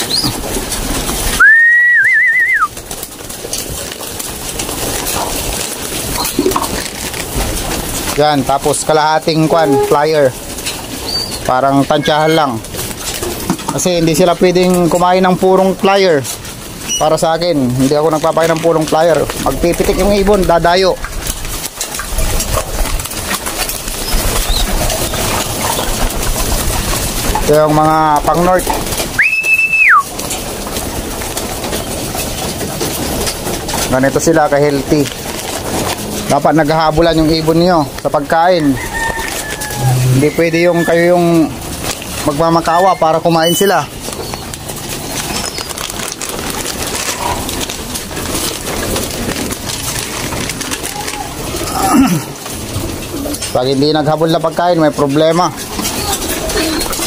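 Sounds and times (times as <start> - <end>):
pigeons flapping and scrambling: 0.0 - 57.0
pigeons pecking feed off board: 0.0 - 57.0
rustling: 0.0 - 57.0.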